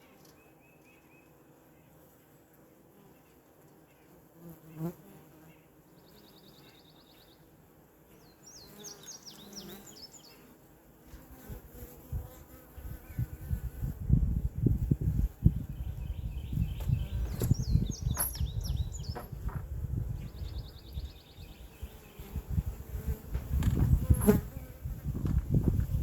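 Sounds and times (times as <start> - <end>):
bee passing close: 4.2 - 26.0.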